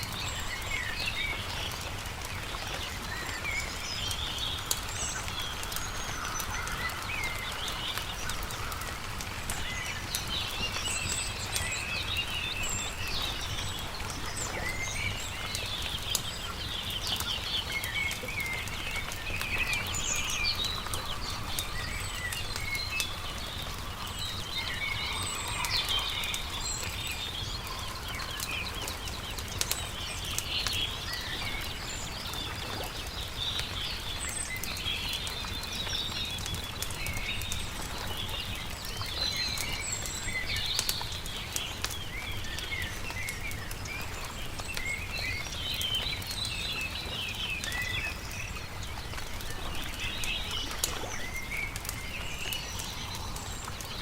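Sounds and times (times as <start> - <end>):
campfire crackling: 0.0 - 54.0
small birds chirping: 0.0 - 54.0.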